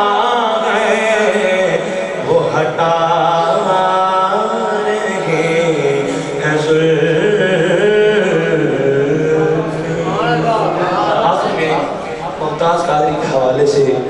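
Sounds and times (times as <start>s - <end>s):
man chanting a religious melody: 0.0s - 14.0s.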